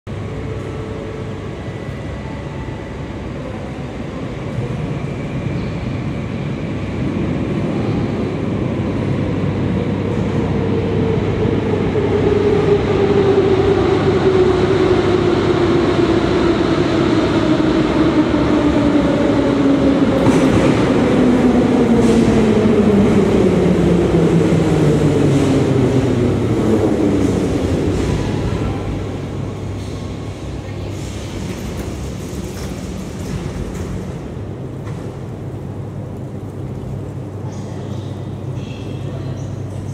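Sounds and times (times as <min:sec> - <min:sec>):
train rumbling: 0:00.1 - 0:39.9.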